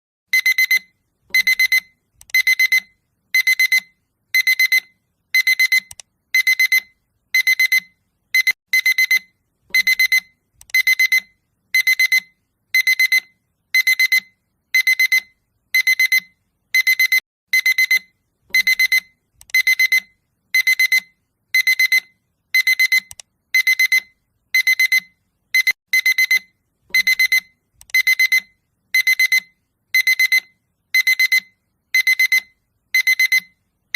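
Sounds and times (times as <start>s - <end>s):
alarm clock beeping: 0.3s - 33.6s.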